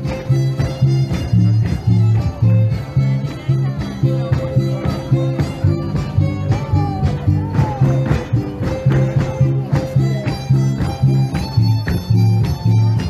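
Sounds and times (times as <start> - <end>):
strummed guitars: 0.0 - 13.0
violin: 0.0 - 13.0.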